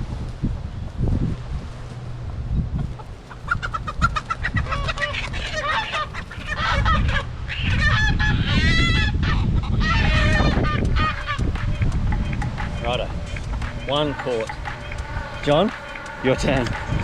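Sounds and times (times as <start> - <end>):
chickens squawking in alarm: 2.8 - 17.0.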